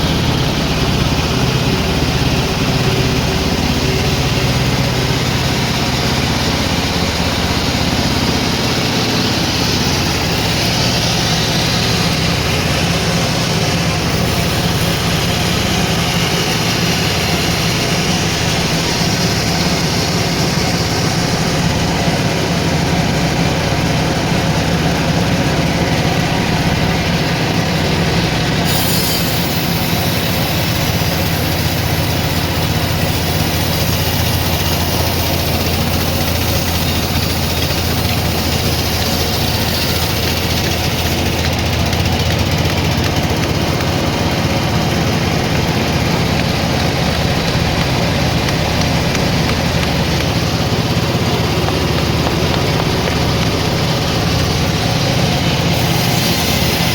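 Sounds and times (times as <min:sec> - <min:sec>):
sawmill saw cutting log: 0:00.0 - 0:56.9.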